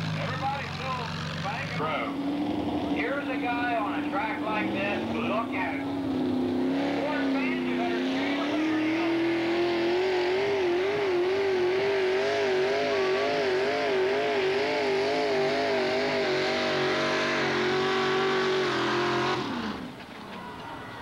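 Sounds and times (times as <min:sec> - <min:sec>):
tractor engine revving hard: 0:00.0 - 0:20.0.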